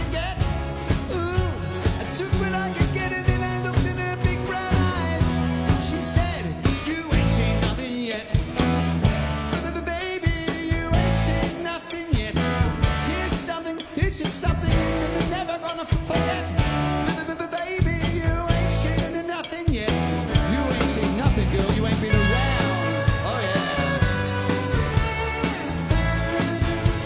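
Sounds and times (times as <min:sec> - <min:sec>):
repeating bass line: 0:00.0 - 0:10.0, 0:10.8 - 0:11.5, 0:12.3 - 0:13.4, 0:14.5 - 0:15.3, 0:16.0 - 0:17.2, 0:17.9 - 0:19.1, 0:19.9 - 0:27.0
live rock band playing: 0:00.0 - 0:27.0.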